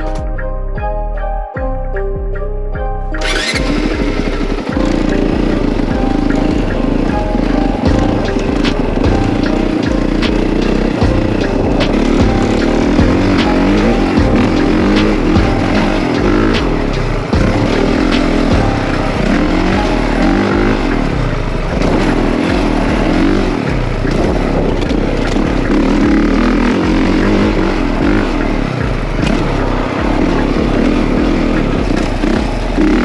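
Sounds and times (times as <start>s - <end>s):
dirt bike engine revving: 3.2s - 33.0s.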